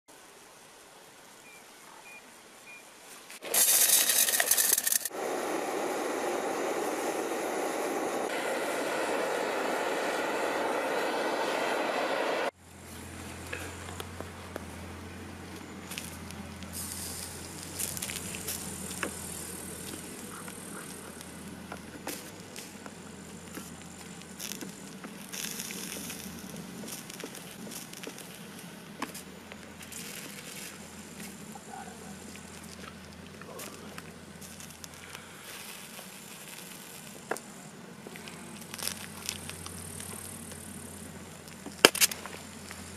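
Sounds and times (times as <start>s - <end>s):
molten metal sizzling and crackling: 3.3s - 42.9s
gas torch flame hissing: 3.4s - 14.6s, 15.5s - 42.9s.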